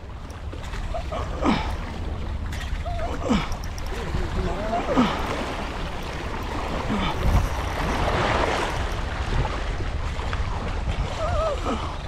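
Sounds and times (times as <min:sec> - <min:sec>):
sea waves against rocks: 0:00.0 - 0:12.0
wind buffeting microphone: 0:00.0 - 0:12.0.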